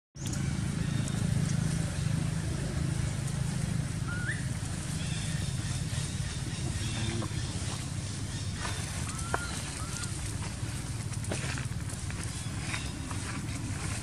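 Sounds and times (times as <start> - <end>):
low outdoor rumble: 0.2 - 14.0.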